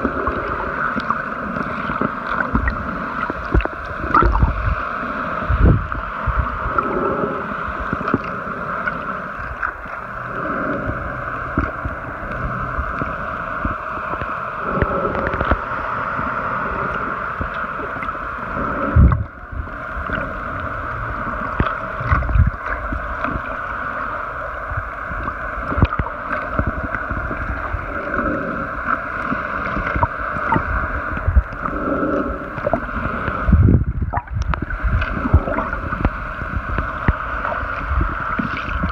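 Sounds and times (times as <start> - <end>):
underwater hiss and gurgle: 0.0 - 38.9.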